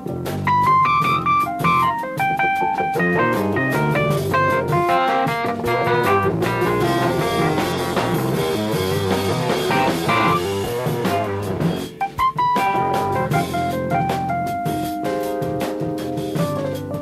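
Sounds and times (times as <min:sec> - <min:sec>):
jazz fusion band playing live: 0:00.0 - 0:17.0.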